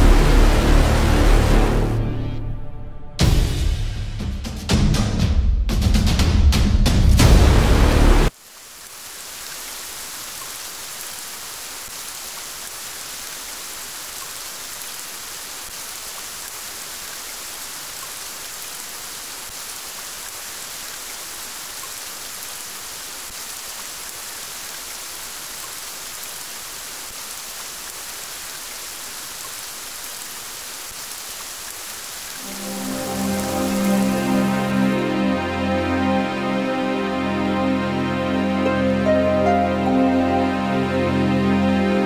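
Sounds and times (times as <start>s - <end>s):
steady rain hiss: 0.0s - 2.2s, 7.2s - 42.0s.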